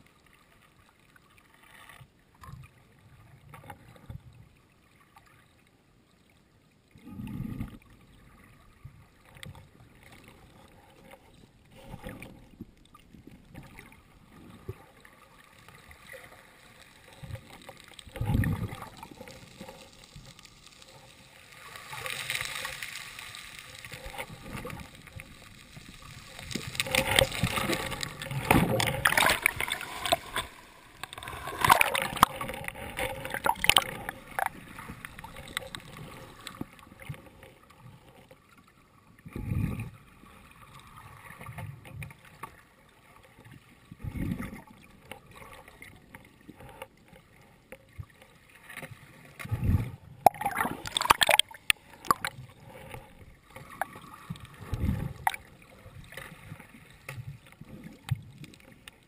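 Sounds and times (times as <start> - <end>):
underwater surf rushing and bubbling: 6.9 - 59.0.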